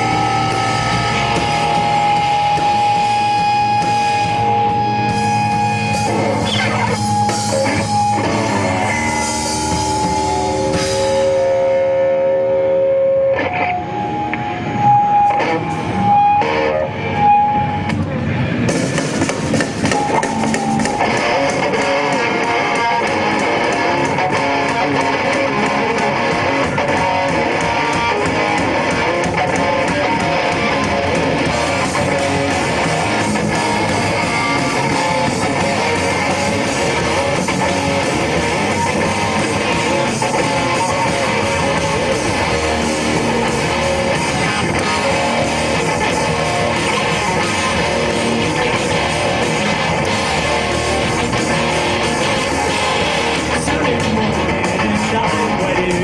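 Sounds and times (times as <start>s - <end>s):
rock band playing live: 0.0s - 56.0s
strummed electric guitars: 0.0s - 56.0s.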